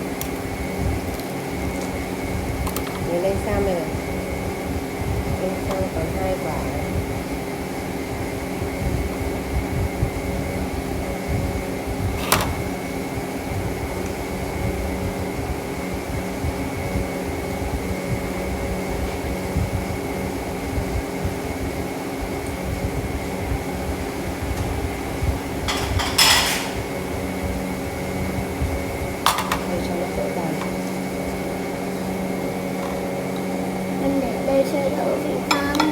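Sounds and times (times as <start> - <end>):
household appliance motor hum: 0.0 - 35.9.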